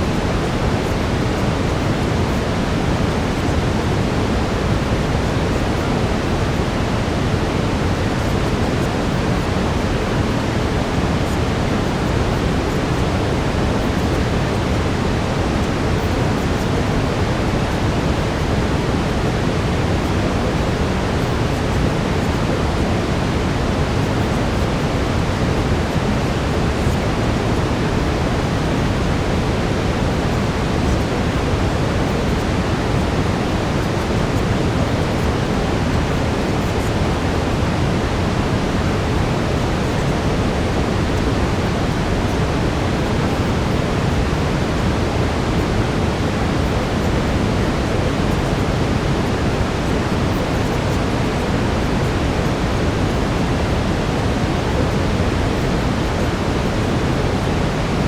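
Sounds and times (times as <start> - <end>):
brown noise deep hiss: 0.0 - 58.0.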